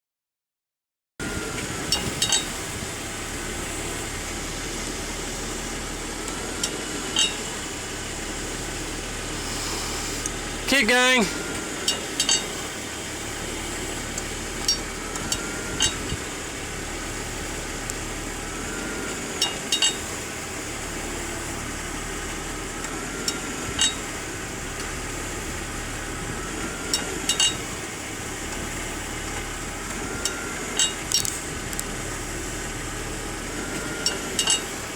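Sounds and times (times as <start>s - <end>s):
car engine idling: 1.3s - 34.9s.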